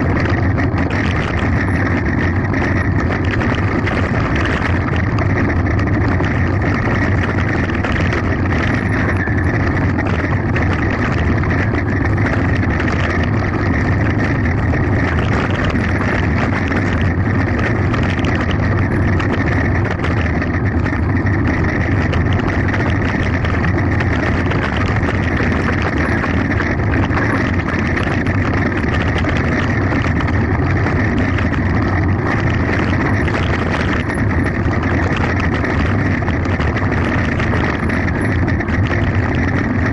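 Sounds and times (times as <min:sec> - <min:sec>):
bike tyre and frame rattle: 0:00.0 - 0:39.9
wind noise on microphone: 0:00.0 - 0:39.9.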